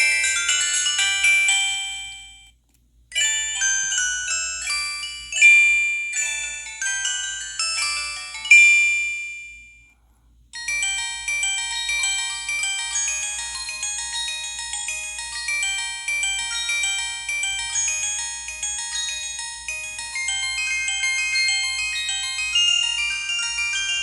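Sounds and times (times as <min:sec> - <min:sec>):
high-pitched ringtone melody: 0:00.0 - 0:02.5, 0:03.1 - 0:10.0, 0:10.6 - 0:24.0.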